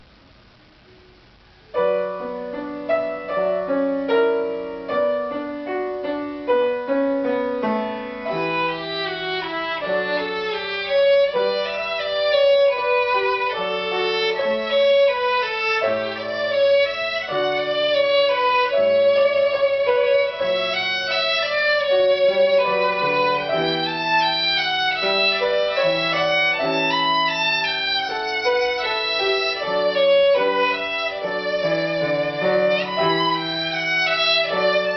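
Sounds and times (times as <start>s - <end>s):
violin melody with accompaniment: 2.1s - 34.9s.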